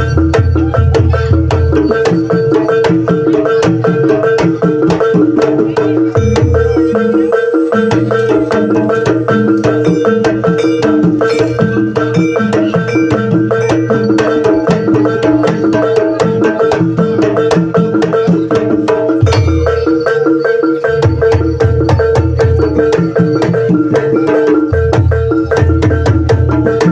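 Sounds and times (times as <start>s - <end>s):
steady ringing tone: 0.0s - 4.2s, 6.0s - 26.9s
hand drums beating fast rhythm: 0.0s - 26.9s.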